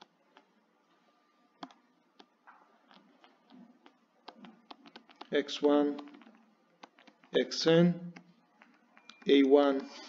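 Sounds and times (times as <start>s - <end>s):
stylus tapping on tablet screen: 0.0s - 7.4s, 8.1s - 10.0s.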